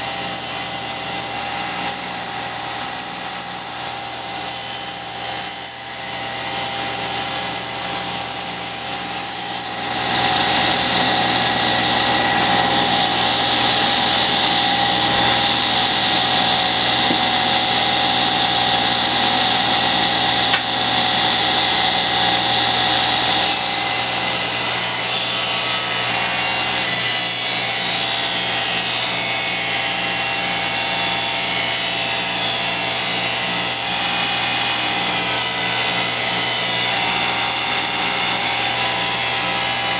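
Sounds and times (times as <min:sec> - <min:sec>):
table saw ripping wood: 0:00.0 - 0:17.5, 0:22.8 - 0:39.9
high saw whine: 0:00.0 - 0:39.9.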